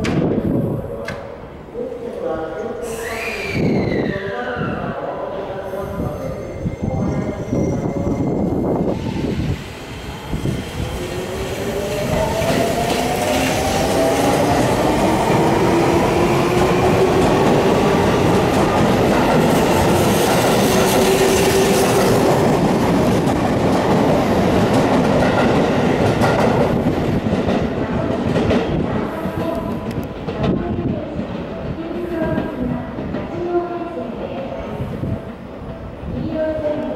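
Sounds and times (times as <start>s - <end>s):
train wheels rumbling on rails: 5.8s - 36.9s.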